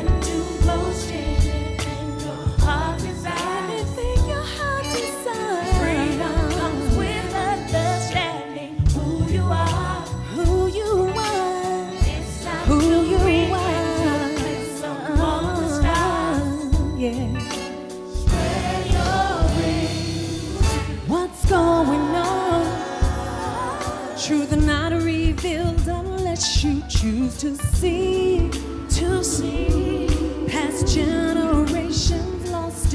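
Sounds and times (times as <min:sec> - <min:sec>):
gospel vocal ensemble singing: 0:00.0 - 0:25.1, 0:26.9 - 0:32.9
bass and drums: 0:00.0 - 0:32.9.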